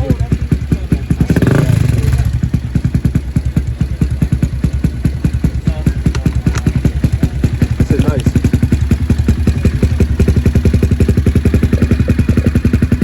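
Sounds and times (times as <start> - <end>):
motorcycle engine pulsing: 0.0 - 13.0.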